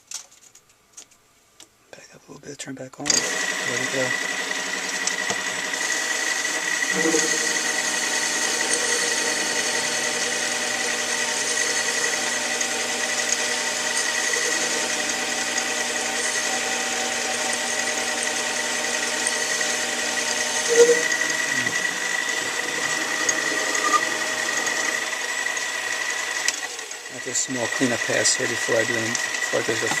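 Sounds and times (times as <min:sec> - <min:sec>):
lathe tool cutting metal: 0:03.1 - 0:30.0
metal lathe motor whine: 0:03.1 - 0:30.0.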